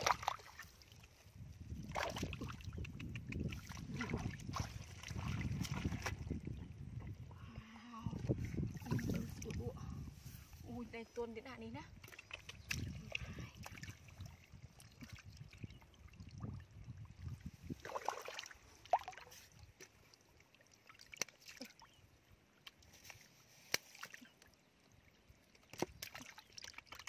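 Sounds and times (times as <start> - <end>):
muddy water sloshing and splashing: 0.0 - 7.3, 8.2 - 27.0.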